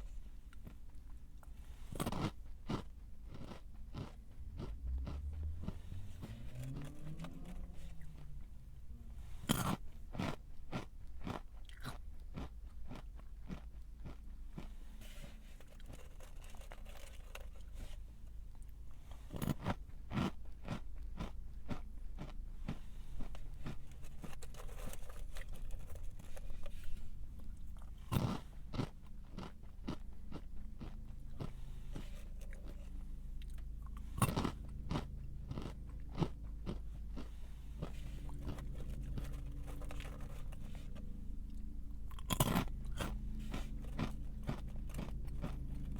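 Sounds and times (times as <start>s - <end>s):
person chewing crunchy snack: 0.0s - 45.9s.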